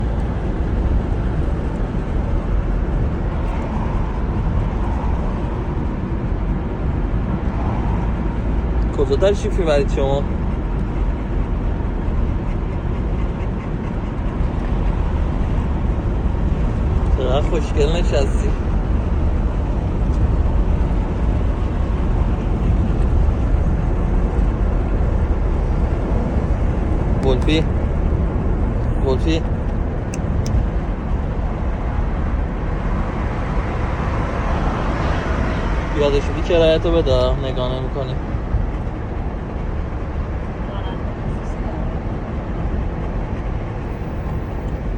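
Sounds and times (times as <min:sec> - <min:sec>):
car interior road rumble: 0:00.0 - 0:44.9.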